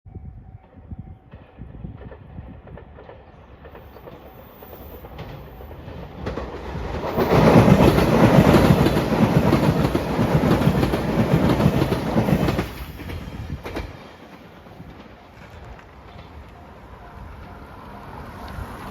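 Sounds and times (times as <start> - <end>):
electric train passing at speed: 0.1 - 18.9.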